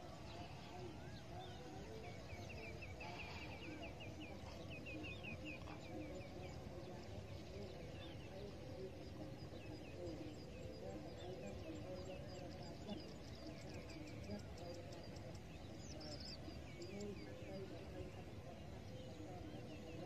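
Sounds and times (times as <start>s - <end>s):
distant voices murmuring: 0.0s - 20.0s
small birds chirping: 0.0s - 20.0s.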